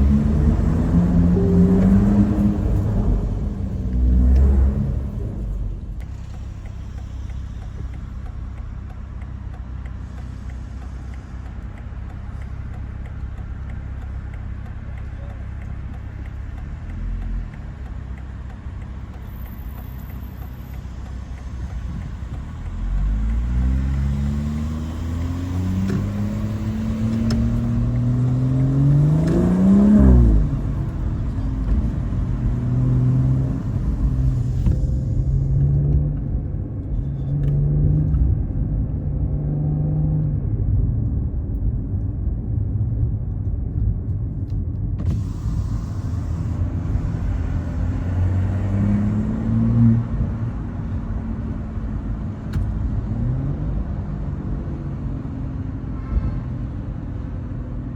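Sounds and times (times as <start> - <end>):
car engine accelerating hard: 0.0 - 57.9.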